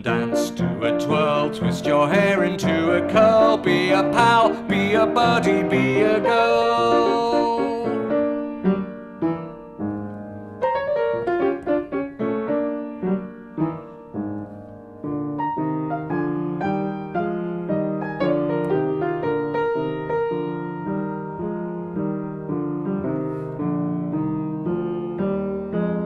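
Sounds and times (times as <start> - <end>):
piano playing chords: 0.0 - 26.0.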